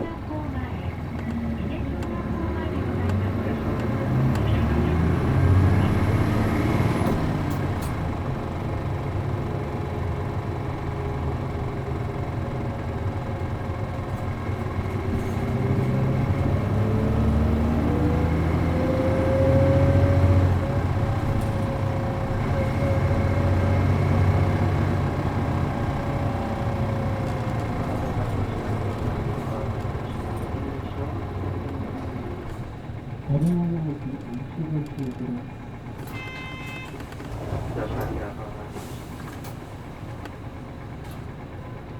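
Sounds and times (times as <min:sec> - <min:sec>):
bus diesel engine: 0:00.0 - 0:41.9
road noise: 0:00.0 - 0:41.9.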